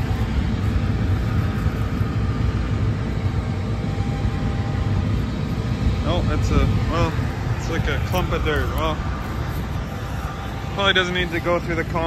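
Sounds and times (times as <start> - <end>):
combine harvester droning: 0.0 - 12.0
faint steady hum: 0.0 - 12.0.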